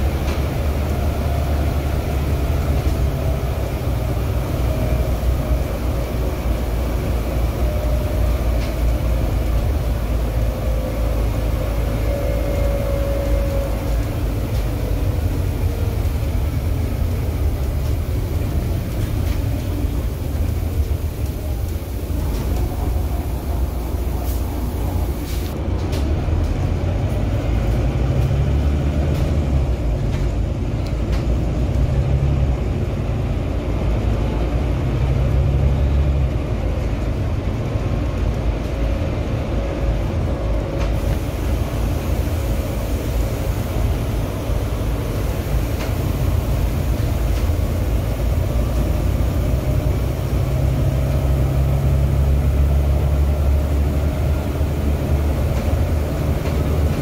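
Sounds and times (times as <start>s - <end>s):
bus diesel engine drone: 0.0s - 57.0s
road and wind noise: 0.0s - 57.0s.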